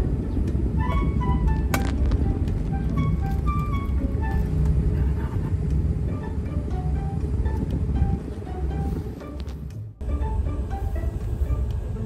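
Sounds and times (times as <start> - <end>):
low rumble: 0.0 - 12.0
music of short separate notes: 0.6 - 4.9, 6.0 - 12.0.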